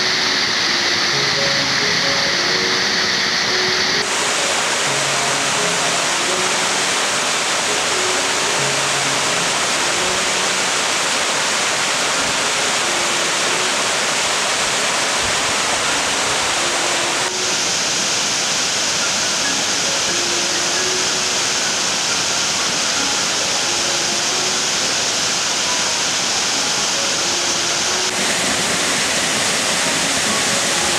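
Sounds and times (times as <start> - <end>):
waterfall rushing over rock: 0.0 - 30.9.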